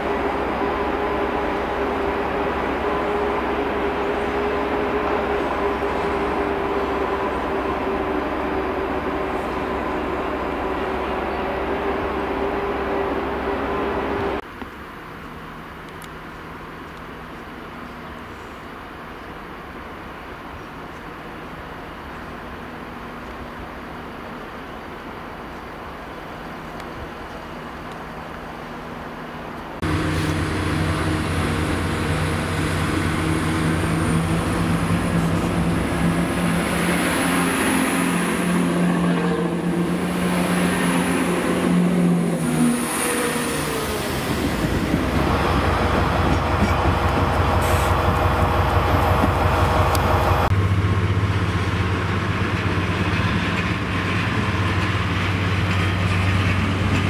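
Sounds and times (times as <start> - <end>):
diesel locomotive drone: 0.0 - 57.0
passenger train passing: 0.0 - 57.0.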